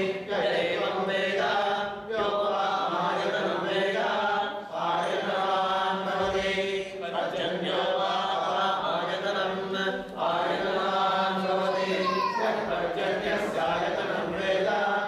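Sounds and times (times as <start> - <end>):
men chanting mantras: 0.0 - 15.0.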